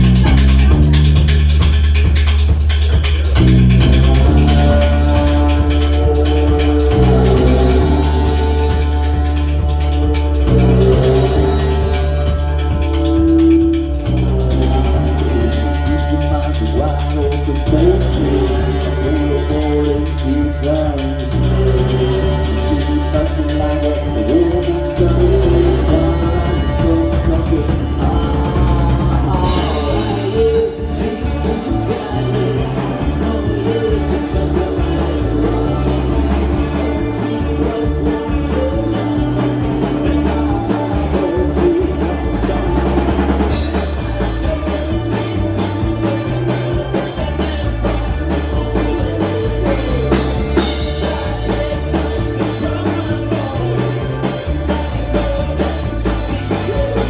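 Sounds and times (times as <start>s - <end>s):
bass line: 0.0s - 57.0s
drum kit beat: 0.0s - 57.0s
live rock band playing: 0.0s - 57.0s
tambourine: 0.0s - 57.0s
person singing: 3.3s - 57.0s.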